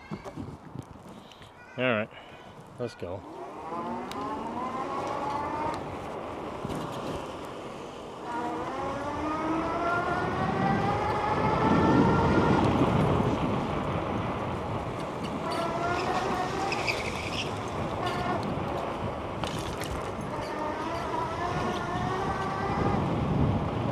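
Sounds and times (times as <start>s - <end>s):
electric bike motor whining: 3.2s - 19.4s, 20.1s - 23.9s.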